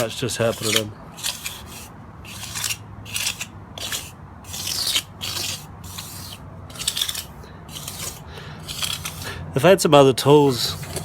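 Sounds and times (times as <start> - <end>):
trowel scraping mortar: 0.0 - 9.4, 10.3 - 11.0.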